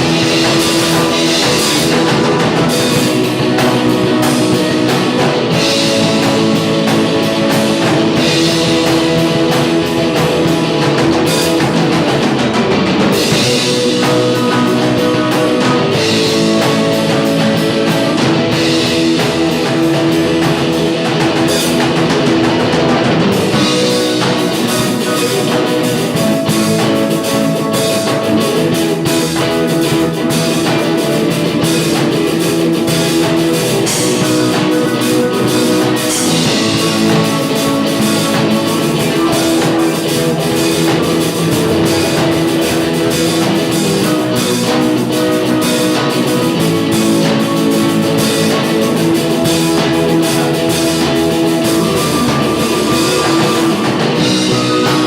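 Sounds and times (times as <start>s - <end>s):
rock music with guitars and drums: 0.0s - 55.0s.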